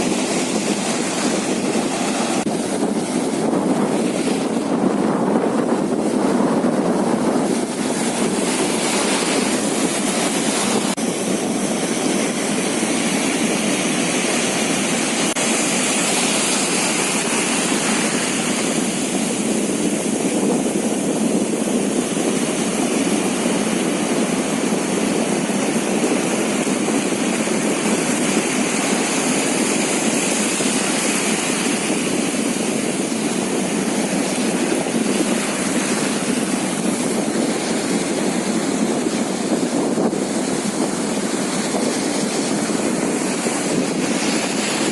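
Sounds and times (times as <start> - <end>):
boat engine running: 0.0 - 44.9
rush of wind and water: 0.0 - 44.9.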